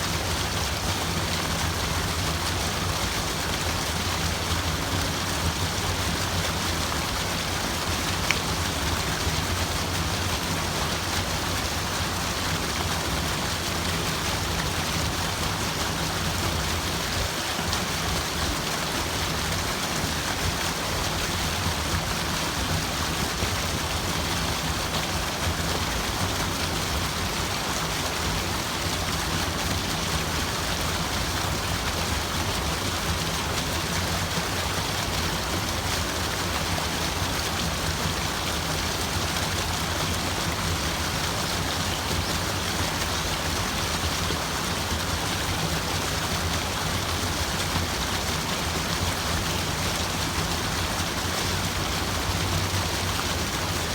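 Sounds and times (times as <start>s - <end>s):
water rushing: 0.0s - 53.9s.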